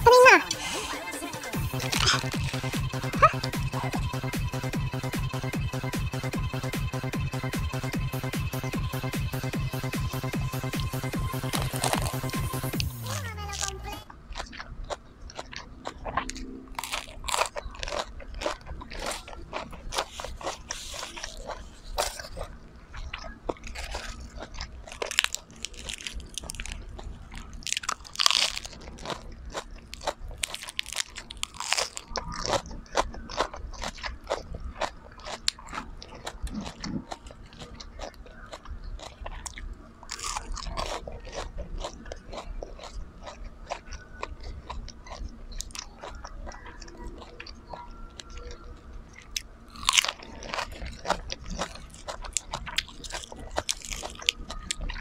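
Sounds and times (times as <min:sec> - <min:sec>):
crunching and chewing food: 0:00.2 - 0:55.0.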